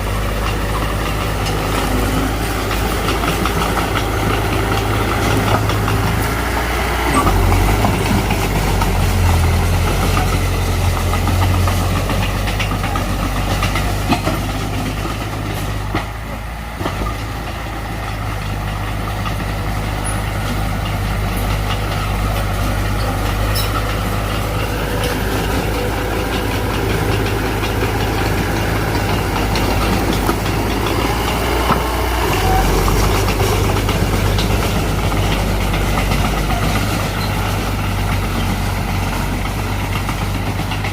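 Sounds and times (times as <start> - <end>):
heavy diesel machinery engine hum: 0.0 - 40.9.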